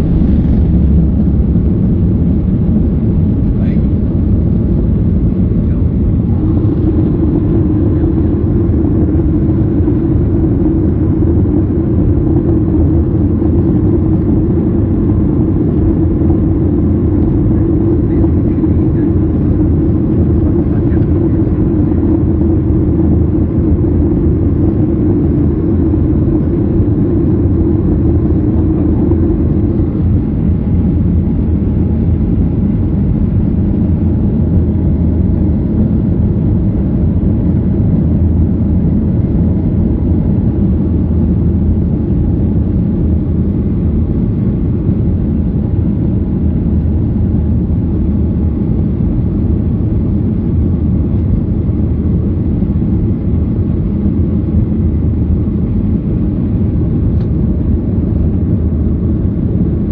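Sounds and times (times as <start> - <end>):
humming tone: 0.0 - 59.9
jet engine and airflow drone: 0.0 - 59.9.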